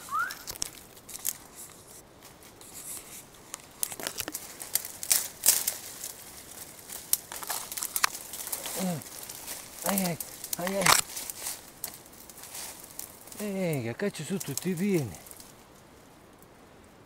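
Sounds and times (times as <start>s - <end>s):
reeds and twigs crackling: 0.0s - 17.0s.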